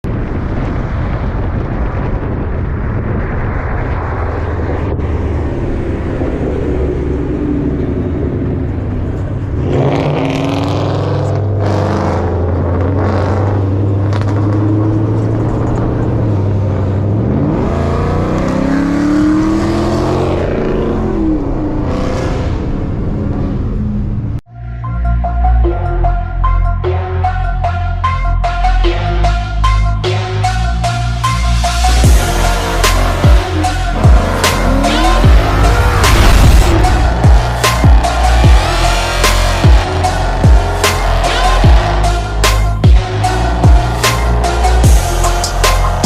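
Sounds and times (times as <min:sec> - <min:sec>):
car engine running and revving: 0:00.0 - 0:24.5, 0:30.4 - 0:46.0.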